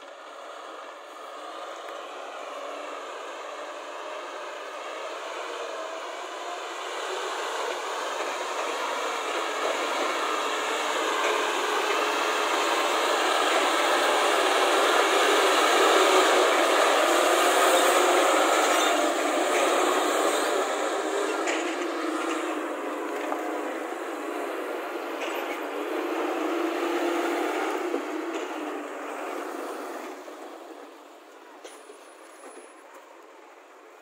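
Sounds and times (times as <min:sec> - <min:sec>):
diesel truck passing by: 0:00.0 - 0:34.0.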